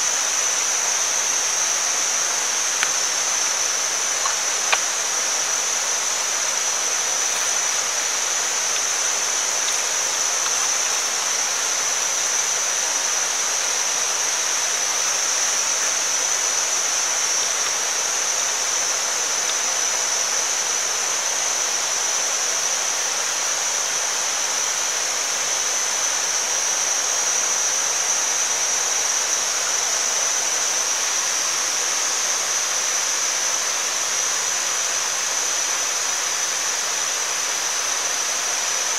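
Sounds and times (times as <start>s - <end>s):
high-pitched whine: 0.0s - 38.9s.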